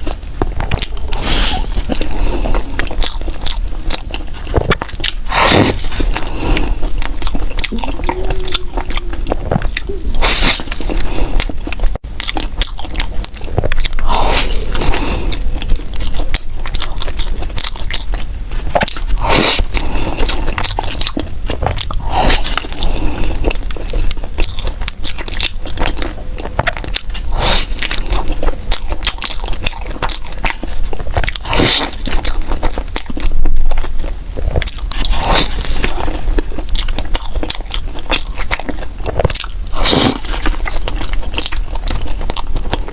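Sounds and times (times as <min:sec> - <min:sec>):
biting and chewing: 0:00.0 - 0:42.9
crunching bite: 0:00.0 - 0:42.9.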